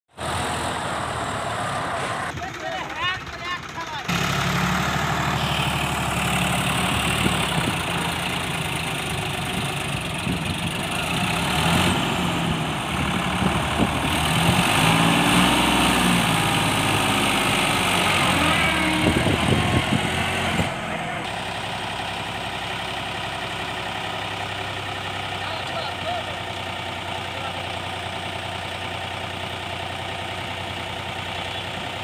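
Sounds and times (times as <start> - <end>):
tractor diesel engine running: 0.1 - 32.0.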